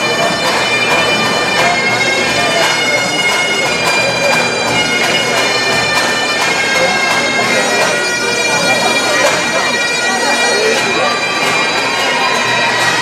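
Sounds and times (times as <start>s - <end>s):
bagpipes playing: 0.0s - 13.0s
crowd talking: 0.0s - 13.0s.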